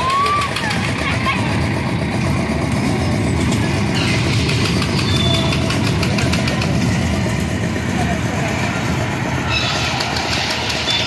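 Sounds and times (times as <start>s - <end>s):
train rumbling on track: 0.0s - 11.0s
wheels rattling: 0.0s - 11.0s.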